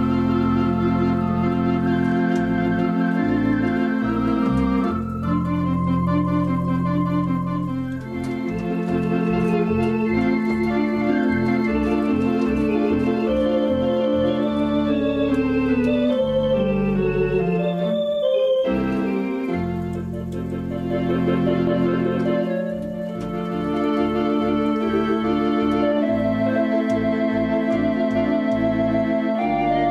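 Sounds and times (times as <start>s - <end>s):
electronic organ playing: 0.0s - 29.9s.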